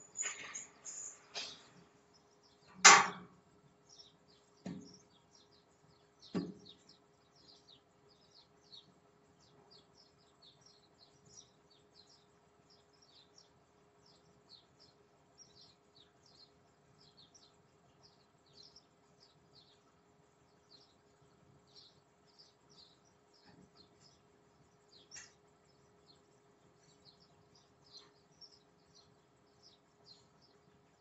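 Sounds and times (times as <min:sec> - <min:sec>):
faint steady hum: 0:00.0 - 0:31.0
small birds chirping: 0:00.0 - 0:31.0.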